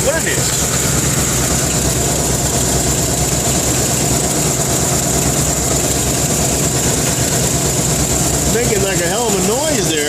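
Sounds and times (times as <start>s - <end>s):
rapid engine tapping: 0.0s - 10.0s
van engine idling: 0.0s - 10.0s.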